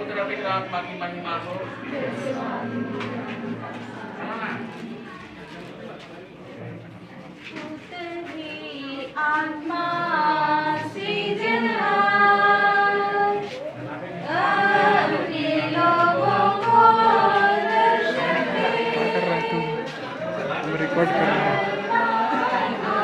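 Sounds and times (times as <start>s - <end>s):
group singing a hymn: 0.0s - 5.8s, 7.5s - 23.0s.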